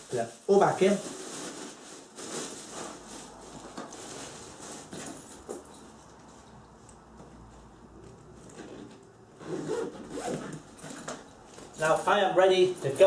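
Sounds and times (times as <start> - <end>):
tool bag rustling: 0.1 - 6.8, 8.4 - 13.0.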